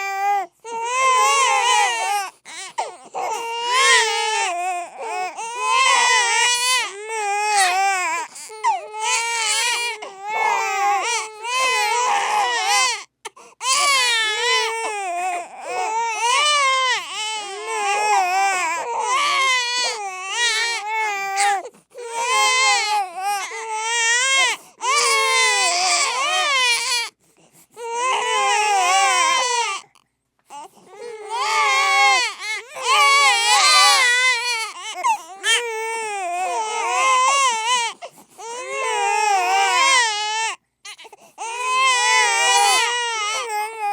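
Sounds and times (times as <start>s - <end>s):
baby crying: 0.0s - 27.2s, 27.8s - 43.9s.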